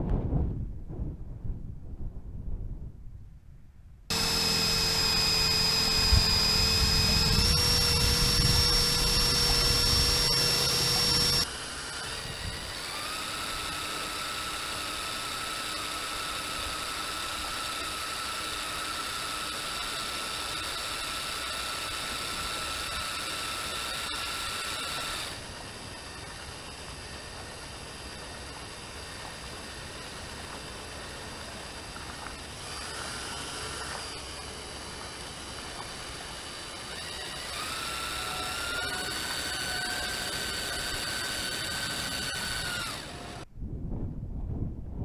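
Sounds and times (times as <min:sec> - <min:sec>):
electric motors whining: 0:04.1 - 0:43.5.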